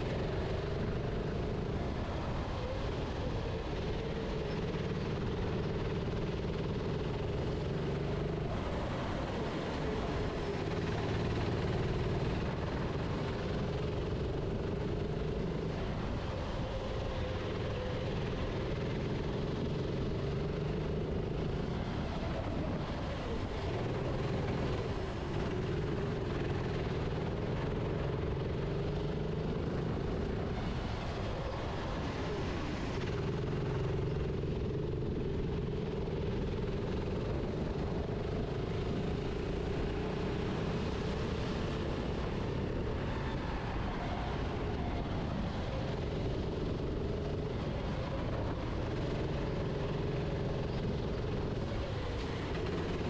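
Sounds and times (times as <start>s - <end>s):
kart engine revving: 4.2s - 53.0s.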